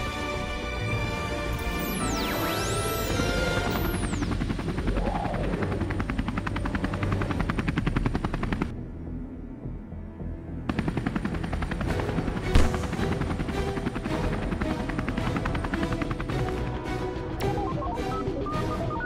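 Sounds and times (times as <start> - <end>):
music: 0.0 - 19.0.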